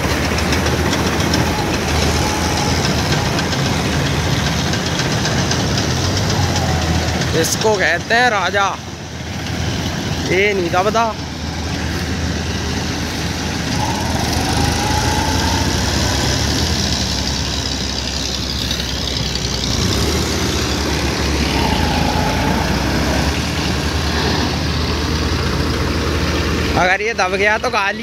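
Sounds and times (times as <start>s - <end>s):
tractor diesel engine droning: 0.0s - 28.0s.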